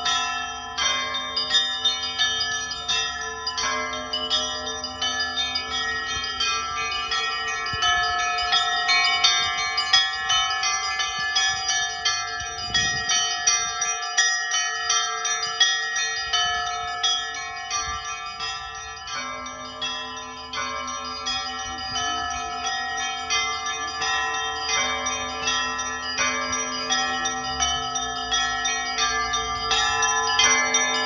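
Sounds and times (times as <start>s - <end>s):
church bells pealing: 0.0s - 31.0s.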